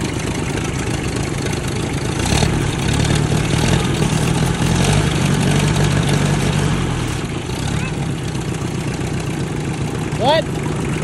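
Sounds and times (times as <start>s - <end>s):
loud tractor engine: 0.0s - 11.0s
tractor engine idling quietly: 0.0s - 11.0s.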